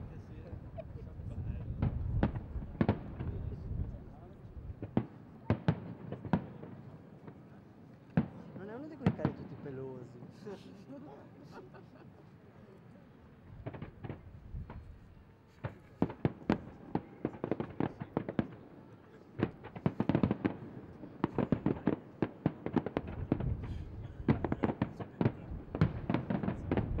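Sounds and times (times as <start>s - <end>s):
fireworks bursting with sharp bangs: 1.6s - 9.7s, 13.4s - 27.0s.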